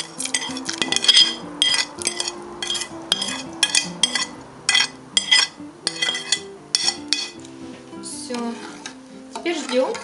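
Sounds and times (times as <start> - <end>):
metal spoon scraping a plate: 0.0 - 7.5, 8.4 - 10.0.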